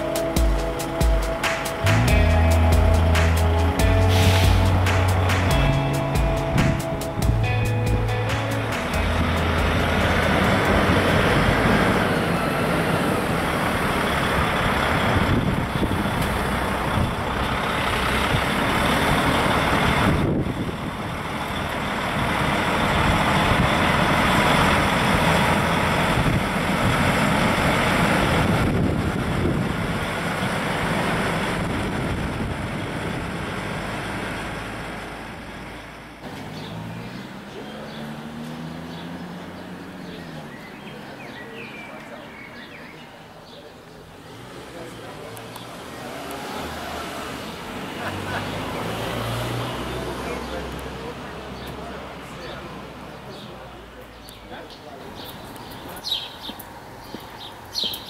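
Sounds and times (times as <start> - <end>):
heavy road traffic: 0.0 - 58.0
trucks passing close by: 0.0 - 58.0.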